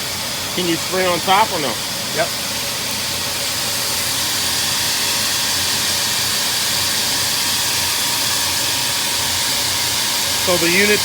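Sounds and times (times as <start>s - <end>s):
water spraying from hose nozzle: 0.4s - 11.0s.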